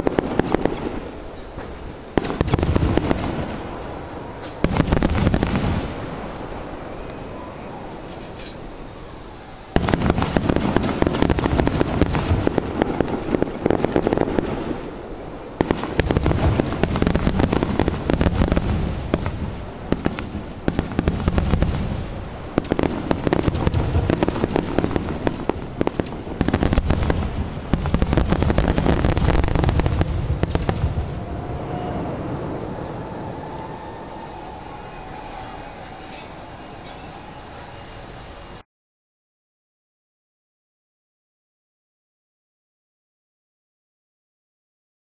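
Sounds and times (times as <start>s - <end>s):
fireworks bursts and booms: 0.0s - 8.6s, 9.6s - 37.2s
fireworks crackling: 0.0s - 38.6s.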